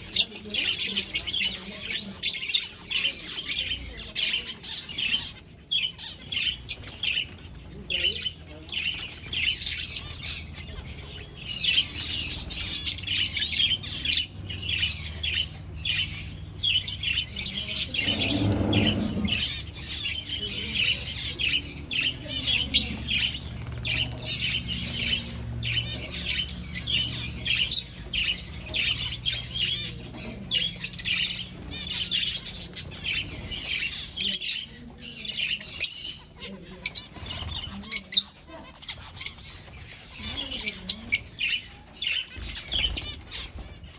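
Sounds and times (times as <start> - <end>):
finches chirping: 0.0 - 43.9.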